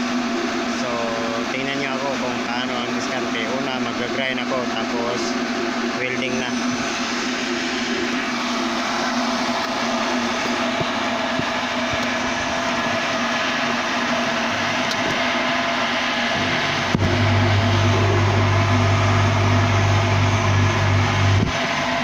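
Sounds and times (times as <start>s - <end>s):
deep electrical hum: 0.0s - 22.0s
workshop machinery noise: 0.0s - 22.0s.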